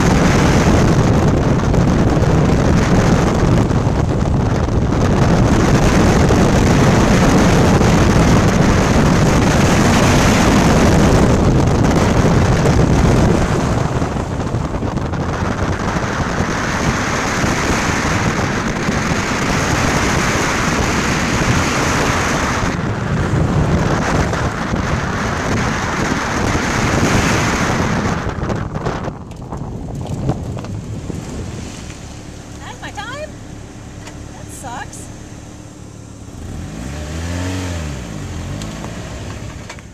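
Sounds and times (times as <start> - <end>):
car engine: 0.0 - 39.9
tyre road noise: 0.0 - 39.9
wind buffeting microphone: 0.0 - 39.9.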